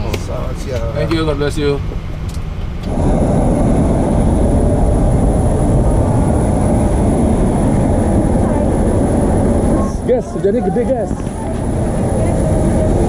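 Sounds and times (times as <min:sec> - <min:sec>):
loud cockpit rumble: 0:00.0 - 0:13.0.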